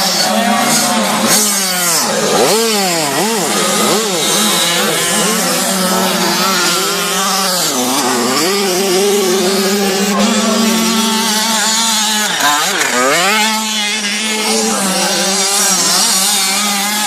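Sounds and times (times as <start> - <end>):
engine running at constant pitch: 0.0 - 17.0
motocross bike engines revving: 0.0 - 17.0.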